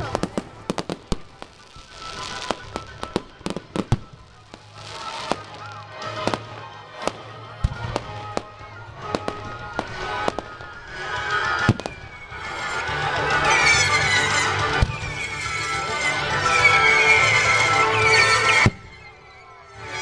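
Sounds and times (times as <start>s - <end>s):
fireworks crackling hiss: 0.0s - 19.1s
fireworks bangs: 0.0s - 19.2s.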